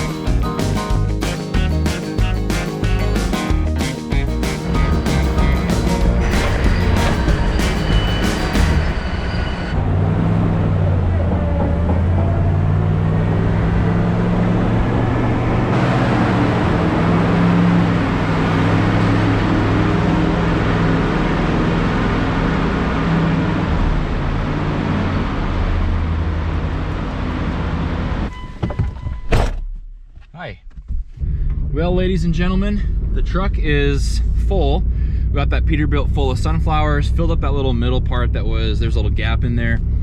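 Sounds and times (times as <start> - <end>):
vehicle engine running: 0.0 - 28.3, 30.8 - 40.0.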